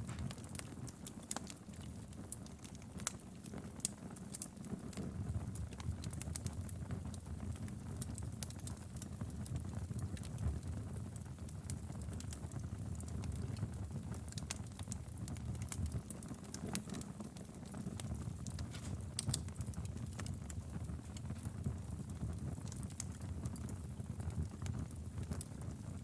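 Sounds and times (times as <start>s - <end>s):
fire rumbling: 0.0s - 1.8s, 4.8s - 26.0s
fire popping and snapping: 0.0s - 26.0s.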